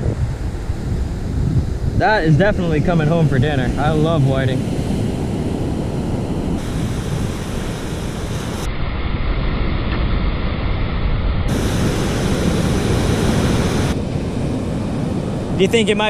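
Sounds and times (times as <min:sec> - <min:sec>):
breaking surf: 0:00.0 - 0:16.0
wind rushing over microphone: 0:00.0 - 0:16.0.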